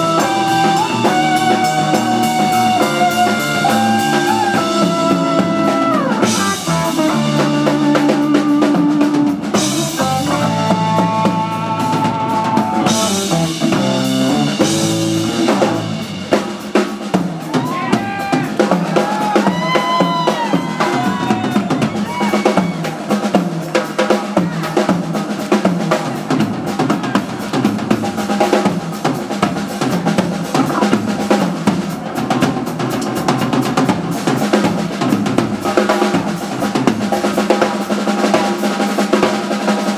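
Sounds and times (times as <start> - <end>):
drum solo: 0.0 - 39.9
live rock band playing: 0.0 - 39.9.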